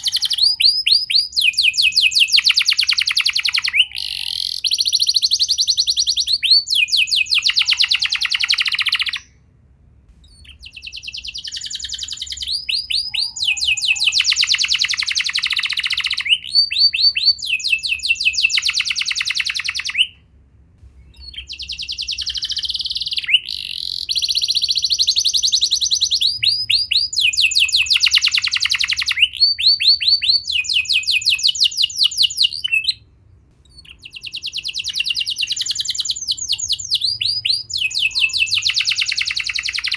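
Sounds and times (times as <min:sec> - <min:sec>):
canary singing trills: 0:00.0 - 0:09.4, 0:10.1 - 0:20.2, 0:21.0 - 0:39.9.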